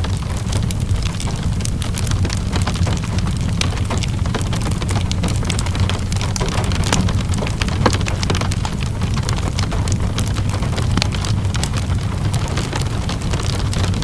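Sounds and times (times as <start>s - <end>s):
constant low rumble: 0.0s - 14.0s
steady rainfall: 0.0s - 14.0s
wood fire crackling and popping: 0.0s - 14.0s.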